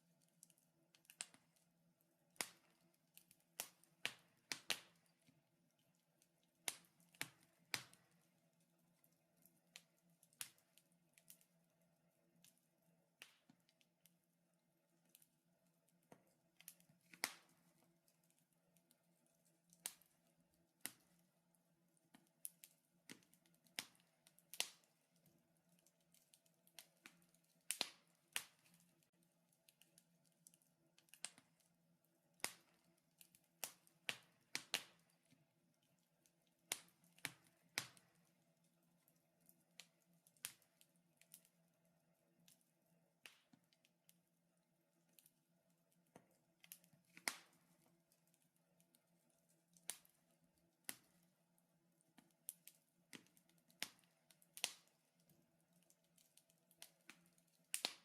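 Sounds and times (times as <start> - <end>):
wood fire crackling: 0.0 - 14.2, 14.9 - 44.2, 44.9 - 58.0.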